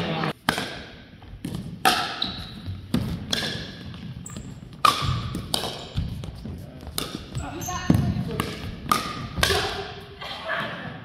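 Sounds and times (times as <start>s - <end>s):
paddles hitting plastic ball: 0.4s - 9.8s
ball bouncing: 0.4s - 10.0s.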